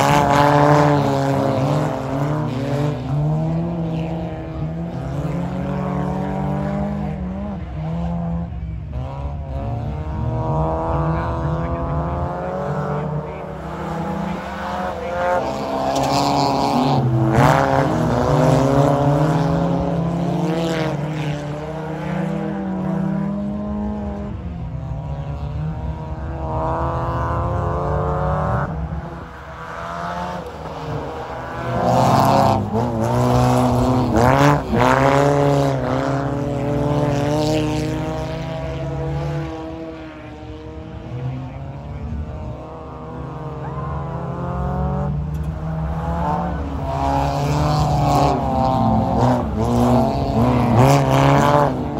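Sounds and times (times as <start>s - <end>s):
racing car engines revving: 0.0s - 51.9s.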